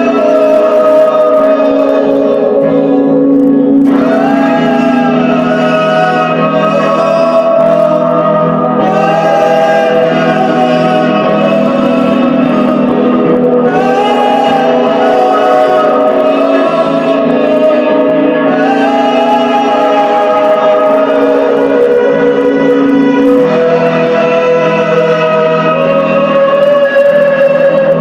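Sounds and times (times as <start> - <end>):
long held chord tones: 0.0 - 28.0.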